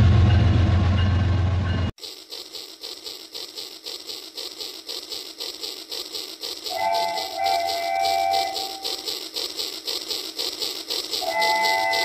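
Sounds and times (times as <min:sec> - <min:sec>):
toy train motor humming: 0:02.0 - 0:12.0
toy train rattling on track: 0:02.0 - 0:12.0.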